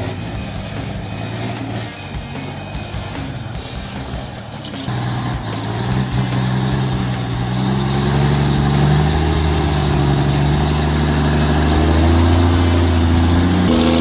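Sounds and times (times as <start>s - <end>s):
diesel truck engine revving: 0.0s - 14.0s.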